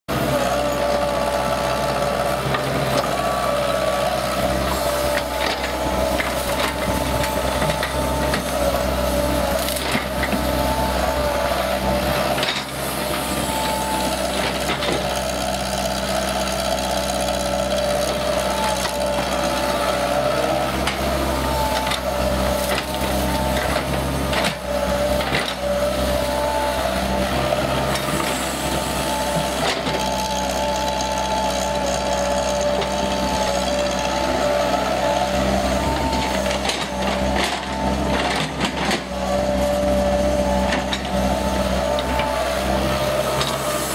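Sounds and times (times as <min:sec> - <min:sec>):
excavator engine whining: 0:00.1 - 0:43.9.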